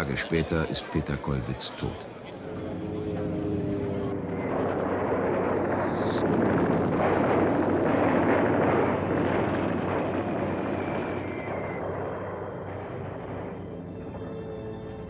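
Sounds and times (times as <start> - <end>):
artillery fire rumbling: 2.4 - 15.0.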